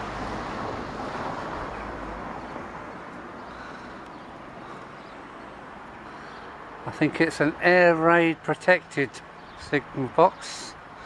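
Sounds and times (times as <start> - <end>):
passing road traffic: 0.0 - 11.0.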